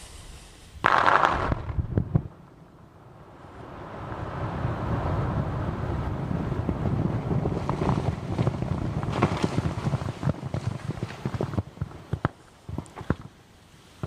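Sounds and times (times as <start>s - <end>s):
explosion rumble: 0.0s - 13.2s.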